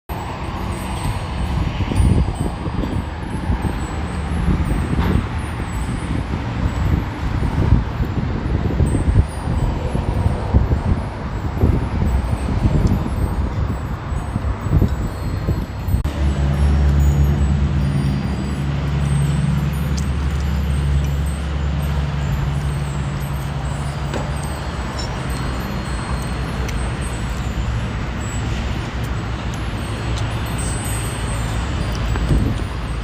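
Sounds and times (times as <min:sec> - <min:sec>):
road traffic noise: 0:00.1 - 0:33.0
vehicle engine humming: 0:00.1 - 0:33.0.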